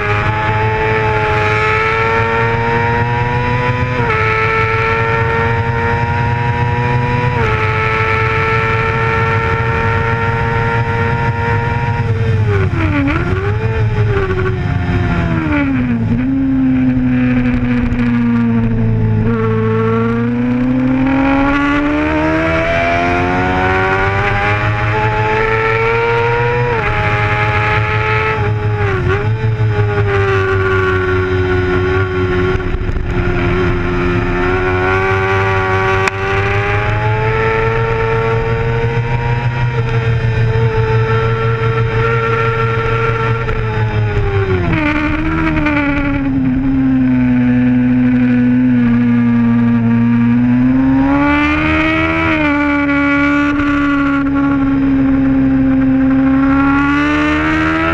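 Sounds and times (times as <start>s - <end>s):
motorcycle engine at high revs: 0.0s - 57.9s.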